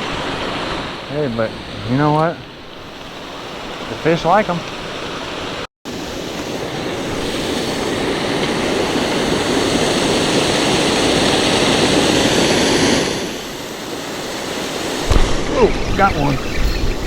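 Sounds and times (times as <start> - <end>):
waterfall rushing: 2.9 - 17.0.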